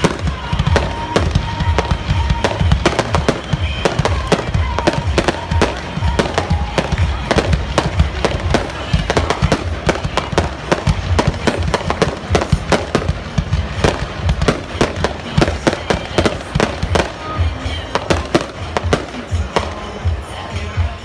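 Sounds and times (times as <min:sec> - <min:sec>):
fireworks bangs and cracks: 0:00.0 - 0:21.0.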